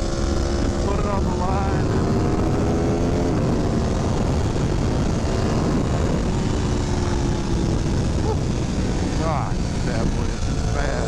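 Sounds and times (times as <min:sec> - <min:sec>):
loud wind rush: 0:00.0 - 0:11.0
motorcycle engine at speed: 0:00.0 - 0:11.0.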